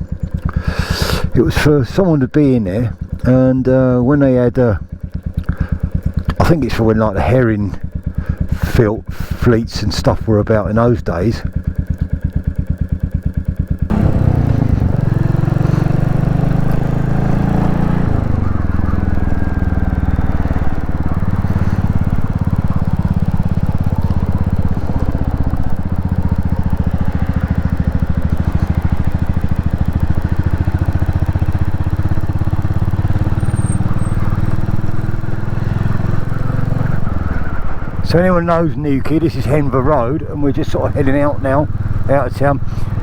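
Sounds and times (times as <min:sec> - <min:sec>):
motorcycle engine: 0:00.0 - 0:43.0.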